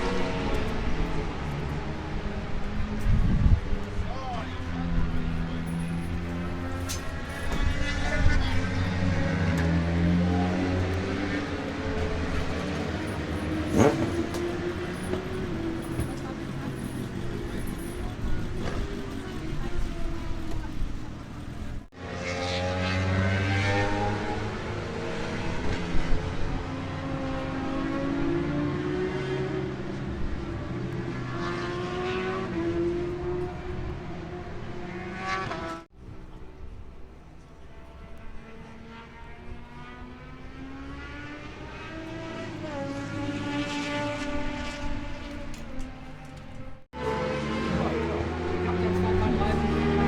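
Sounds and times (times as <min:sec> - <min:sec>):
racing motorcycle engine running: 0:00.0 - 0:35.8, 0:37.4 - 0:50.0.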